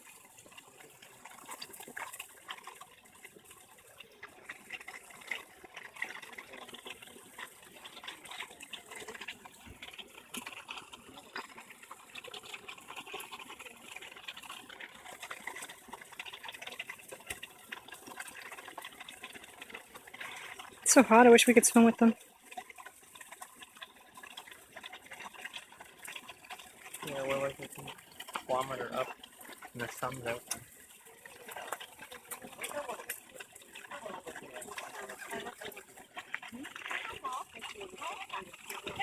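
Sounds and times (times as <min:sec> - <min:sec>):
water splashing and trickling: 0:00.0 - 0:39.0.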